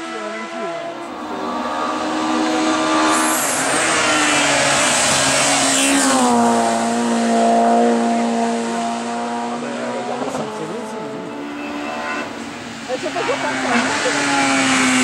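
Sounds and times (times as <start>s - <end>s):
race car engine revving past: 0.0s - 15.0s.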